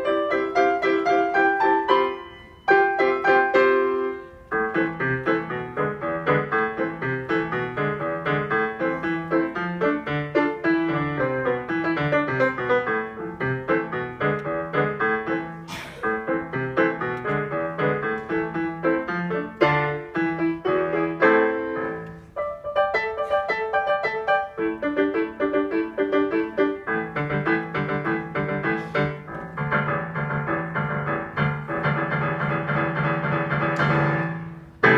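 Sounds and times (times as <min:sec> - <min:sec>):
digital piano playing: 0:00.0 - 0:34.9.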